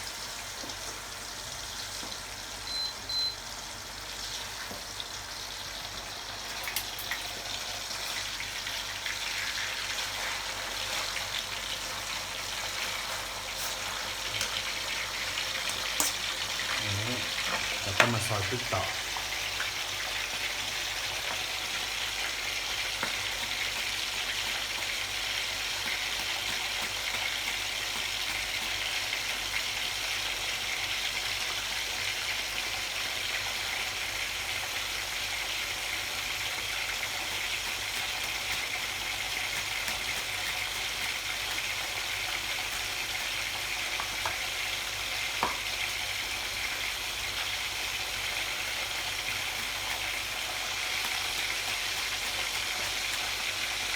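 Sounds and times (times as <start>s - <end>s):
pork sizzling in a pan: 0.0s - 53.9s.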